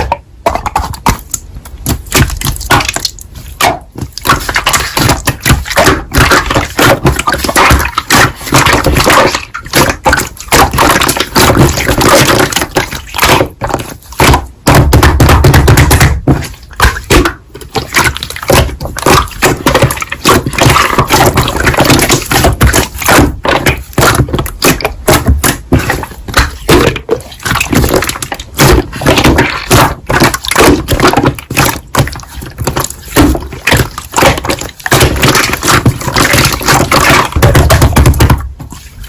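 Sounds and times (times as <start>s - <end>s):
hands squishing slime: 0.0s - 39.0s.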